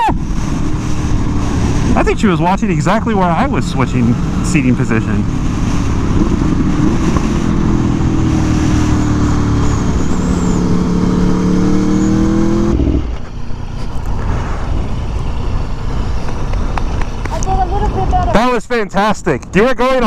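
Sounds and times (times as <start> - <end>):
motorcycle engine running: 0.0 - 18.3
wind rush: 0.0 - 18.4.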